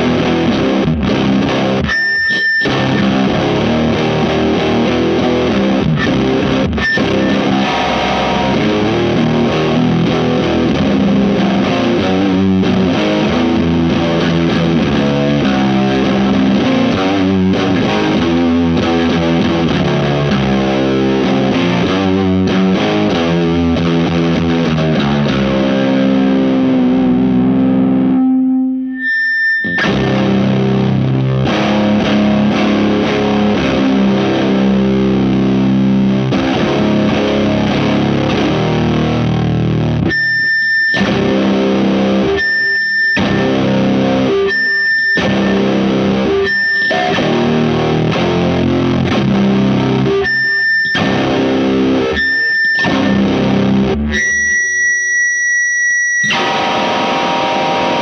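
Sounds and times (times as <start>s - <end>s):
distorted electric guitar chords: 0.0s - 58.0s.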